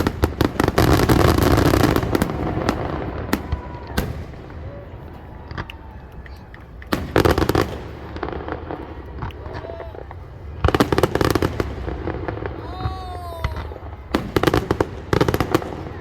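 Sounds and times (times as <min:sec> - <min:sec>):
fireworks bangs and booms: 0:00.0 - 0:16.0.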